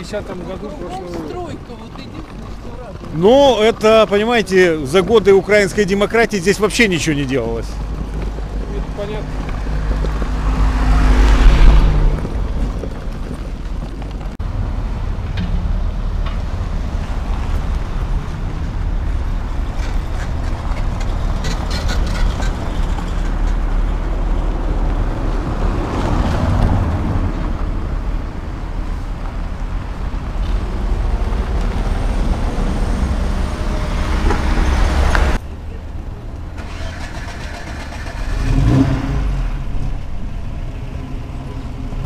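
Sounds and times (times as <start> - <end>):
cars and trucks passing: 0.0 - 42.0
low traffic rumble: 0.0 - 42.0.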